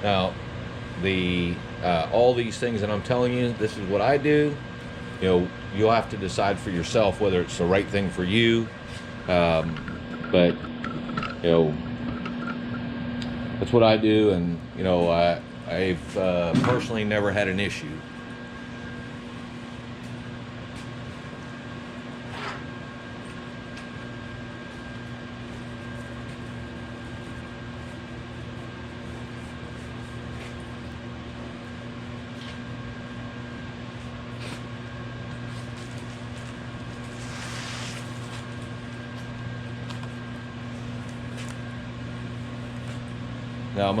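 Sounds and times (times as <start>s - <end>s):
microwave oven humming: 0.0s - 44.0s.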